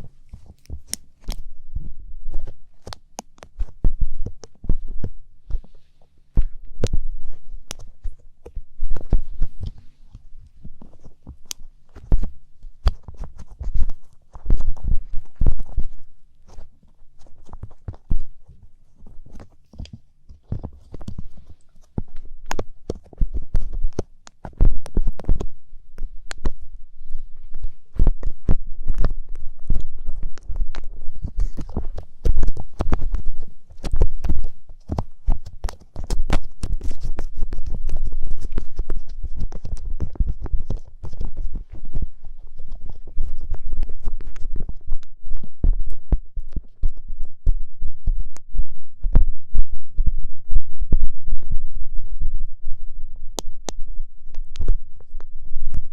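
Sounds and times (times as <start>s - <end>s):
ear pick scraping and tapping: 0.0s - 52.3s, 53.3s - 55.9s.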